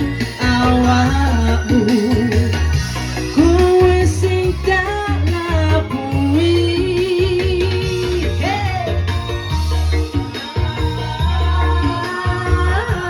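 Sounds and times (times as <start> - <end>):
bass beat: 0.0 - 13.0
guitar: 0.0 - 13.0.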